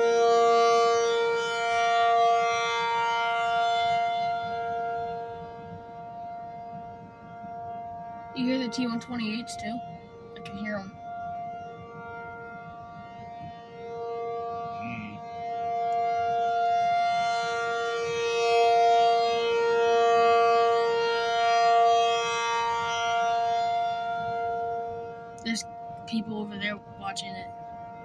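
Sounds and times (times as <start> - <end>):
warning siren two-note tone: 0.0 - 28.0.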